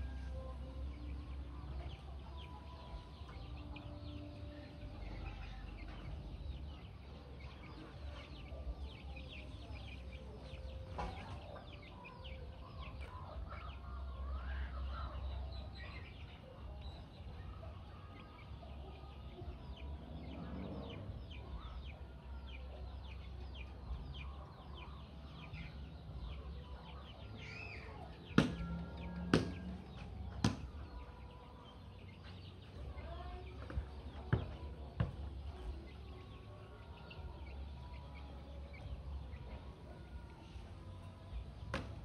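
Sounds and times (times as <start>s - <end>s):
chickens clucking: 0.8s - 42.0s.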